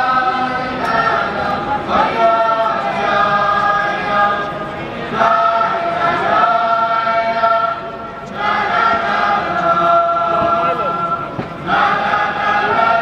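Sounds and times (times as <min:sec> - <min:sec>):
crowd of men and boys singing: 0:00.0 - 0:13.0.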